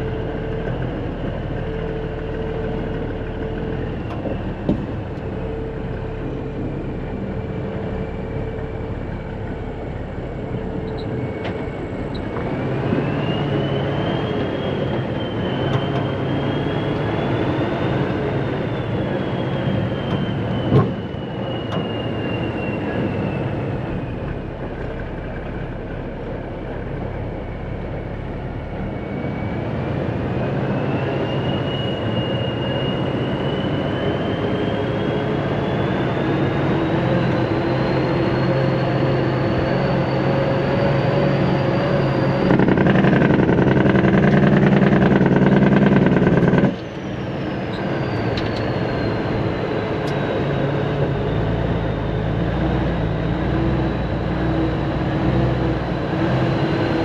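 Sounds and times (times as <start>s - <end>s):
diesel engine running: 0.0s - 57.0s
high whine: 0.0s - 57.0s.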